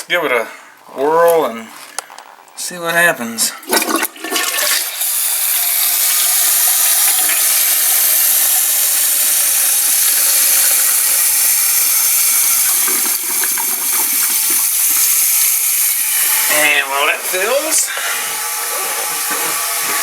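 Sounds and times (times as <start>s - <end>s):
water hissing into toilet tank: 3.6s - 20.0s.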